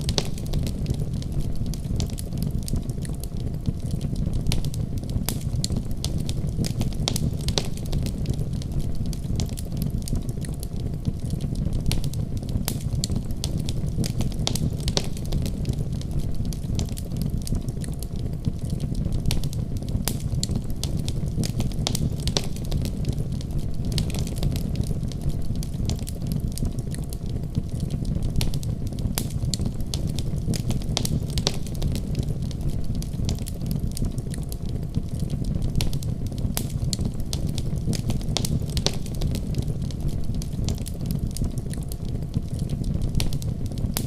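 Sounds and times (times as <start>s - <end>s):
sharp pops and snaps: 0.0s - 44.0s
wood fire crackling: 0.0s - 44.0s.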